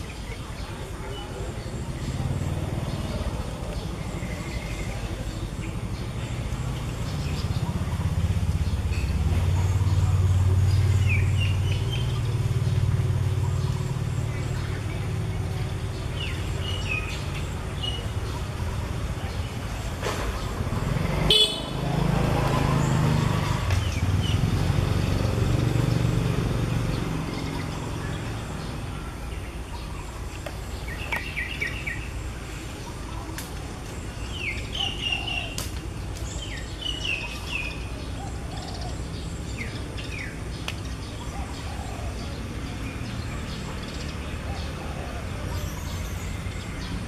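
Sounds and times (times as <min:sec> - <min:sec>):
birds chirping: 0:00.0 - 0:47.0
motor vehicle passing: 0:01.4 - 0:47.0.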